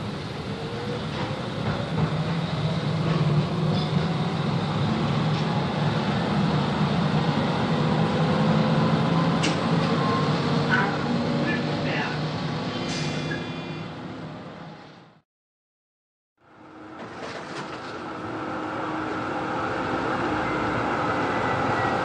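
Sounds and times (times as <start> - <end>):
tram motor whine: 0.0 - 15.0, 16.5 - 22.0.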